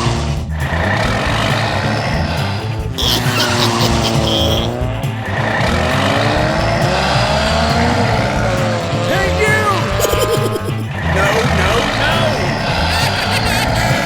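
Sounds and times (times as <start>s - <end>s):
background music: 0.0s - 14.0s
car engine revving: 0.0s - 14.0s.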